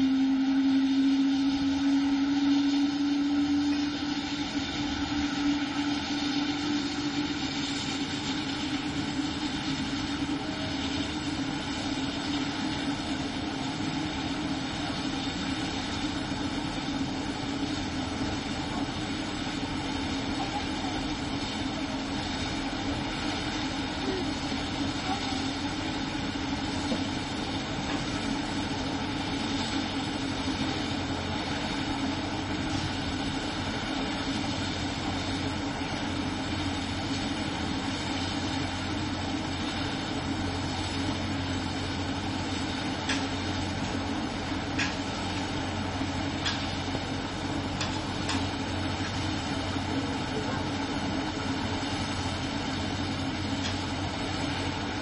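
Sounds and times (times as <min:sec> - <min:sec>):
helicopter turbine and rotor: 0:00.0 - 0:55.0.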